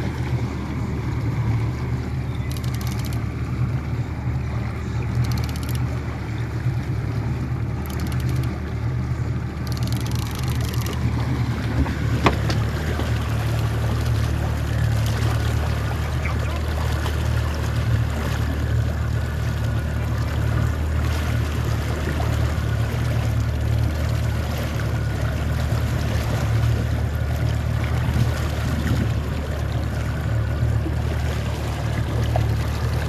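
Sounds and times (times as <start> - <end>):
boat motor droning: 0.0 - 33.0
water splashing past hull: 0.0 - 33.0.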